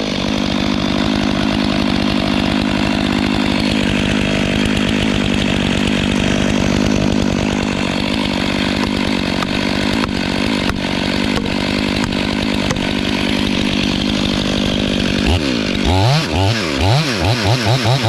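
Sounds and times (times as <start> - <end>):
chainsaw cutting tree trunk: 0.0 - 18.0.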